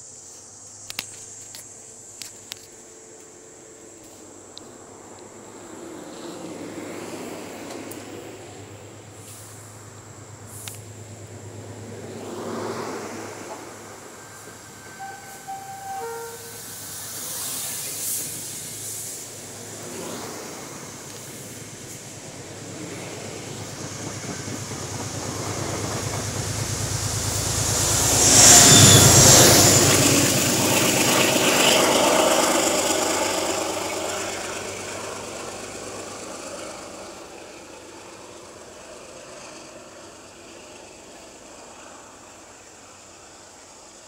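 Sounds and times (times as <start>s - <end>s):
train passing: 2.8s - 44.0s.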